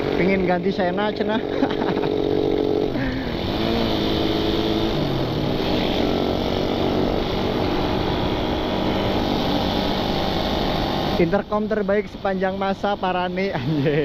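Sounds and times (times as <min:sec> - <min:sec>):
motorcycle engine accelerating: 0:00.0 - 0:14.0
road and wind noise: 0:00.0 - 0:14.0.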